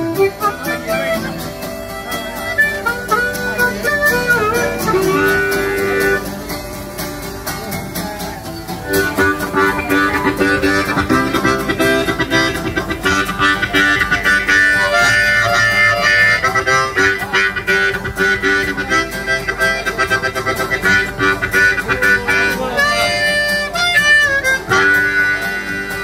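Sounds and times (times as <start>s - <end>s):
acoustic guitar strumming: 0.0s - 26.0s
harmonica melody: 0.0s - 26.0s.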